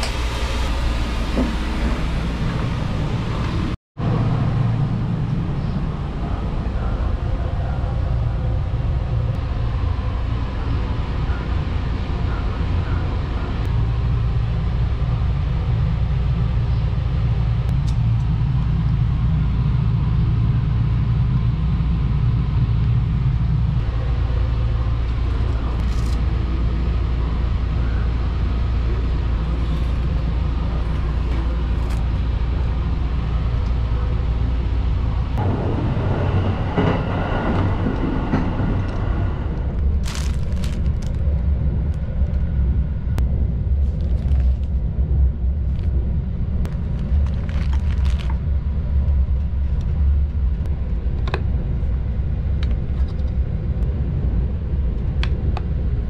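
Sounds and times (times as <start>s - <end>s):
rush of noise: 0.0s - 56.0s
train rumbling from inside: 0.0s - 56.0s.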